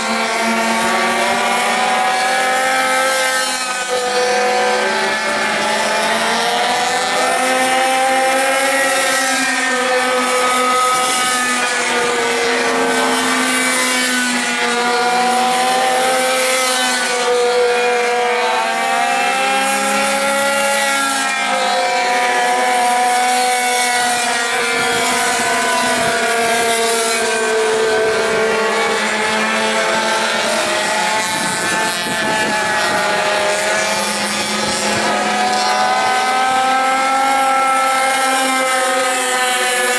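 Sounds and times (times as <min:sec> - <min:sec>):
minibike racing engines: 0:00.0 - 0:39.9.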